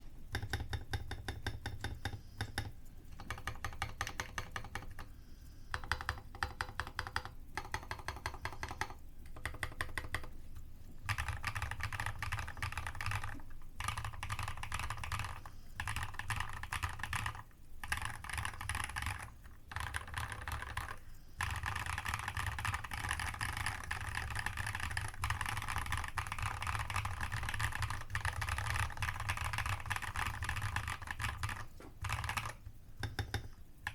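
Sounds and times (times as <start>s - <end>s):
mechanical keyboard typing: 0.3s - 5.1s, 5.7s - 10.3s, 11.0s - 33.9s.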